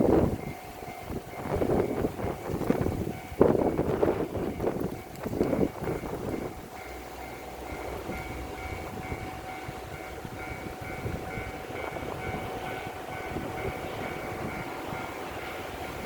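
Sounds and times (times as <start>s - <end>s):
level crossing alarm dinging: 0.0s - 16.0s
train running on rails: 0.0s - 16.0s.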